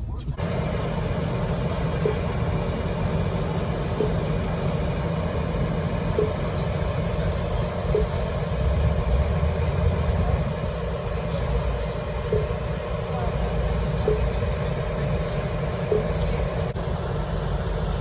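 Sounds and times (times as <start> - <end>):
bus engine rumbling: 0.0 - 18.0.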